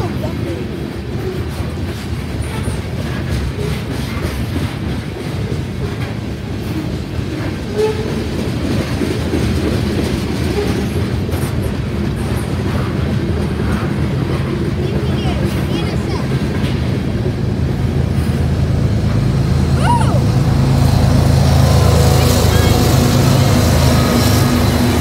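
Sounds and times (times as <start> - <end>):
freight train wheels clickety-clack: 0.0 - 25.0.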